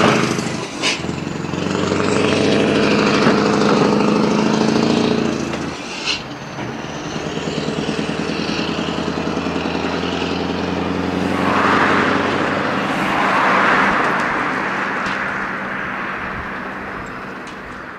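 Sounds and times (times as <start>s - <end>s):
diesel truck engine pulsing: 0.0s - 17.9s.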